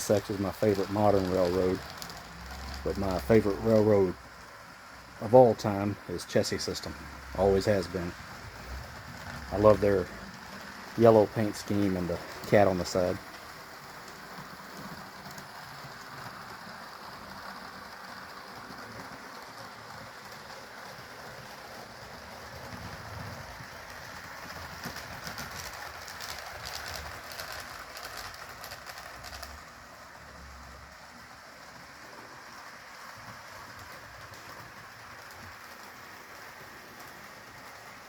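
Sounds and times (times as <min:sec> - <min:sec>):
model train rattling on track: 0:00.0 - 0:38.0
wheels clicking over rail joints: 0:00.0 - 0:38.0.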